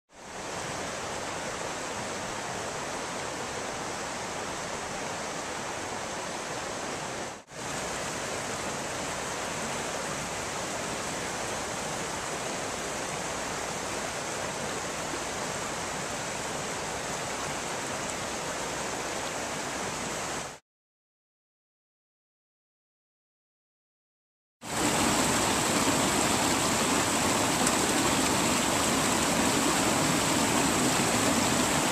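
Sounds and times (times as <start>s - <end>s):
whitewater rushing over rocks: 0.2s - 20.6s, 24.7s - 31.9s.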